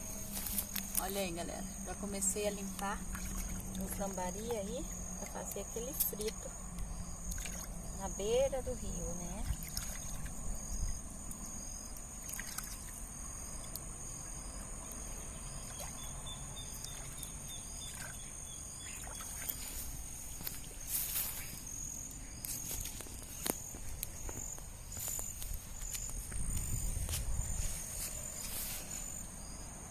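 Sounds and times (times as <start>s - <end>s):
high-pitched insect chorus: 0.0s - 29.9s.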